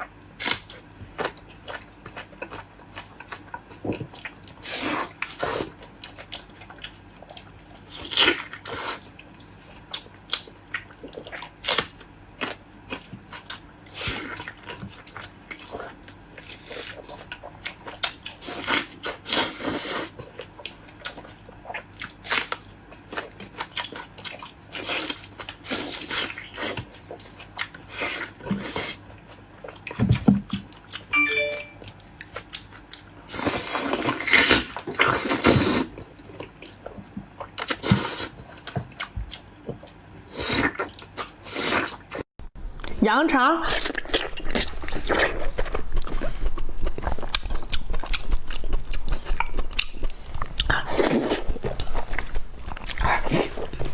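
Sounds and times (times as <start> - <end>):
person chewing and biting: 0.4 - 42.2, 43.7 - 53.9.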